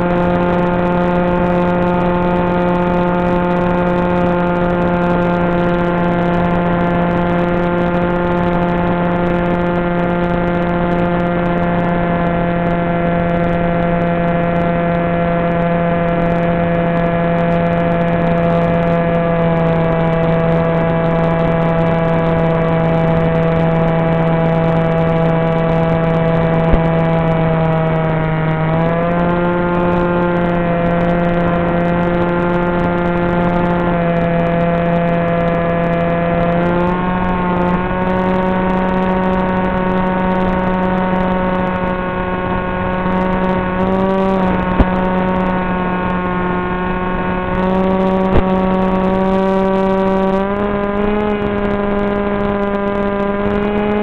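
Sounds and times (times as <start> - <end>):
electric motor and propeller whining: 0.0 - 54.0.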